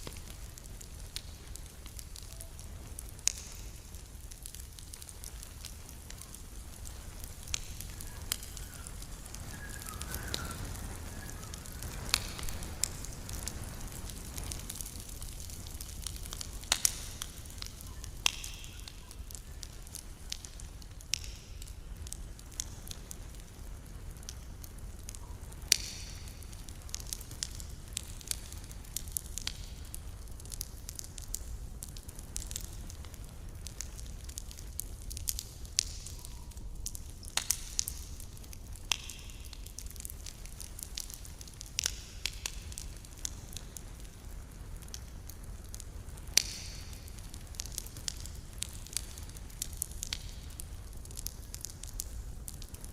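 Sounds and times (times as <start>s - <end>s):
campfire crackling: 0.0s - 52.9s
low rush of flames: 0.0s - 52.9s
sharp pops from burning wood: 0.0s - 52.9s.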